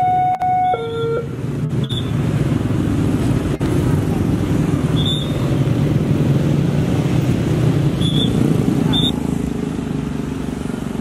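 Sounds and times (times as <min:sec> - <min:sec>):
motorcycle and car engines rumbling: 0:00.0 - 0:11.0.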